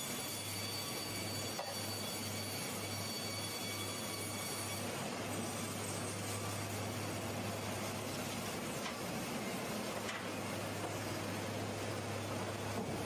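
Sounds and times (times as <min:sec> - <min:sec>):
sawmill machinery drone: 0:00.0 - 0:13.0.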